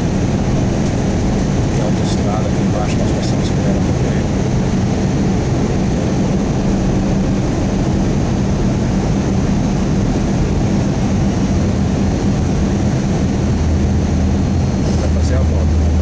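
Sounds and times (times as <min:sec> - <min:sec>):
airplane cabin engine rush: 0:00.0 - 0:16.0
deeper hum: 0:00.0 - 0:16.0
low hum: 0:00.0 - 0:16.0.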